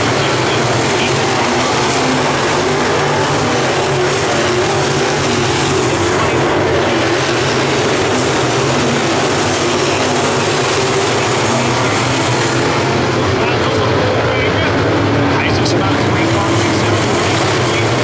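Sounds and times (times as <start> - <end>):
race car engines roaring: 0.0 - 18.0.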